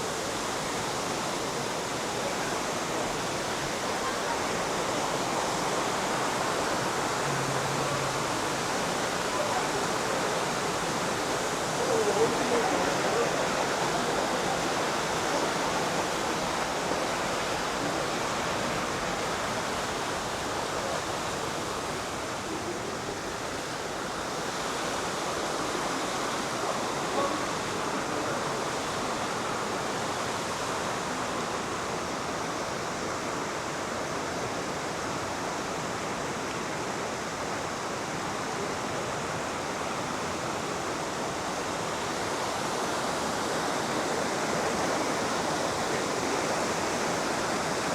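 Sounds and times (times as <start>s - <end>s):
river rushing over rocks: 0.0s - 47.9s.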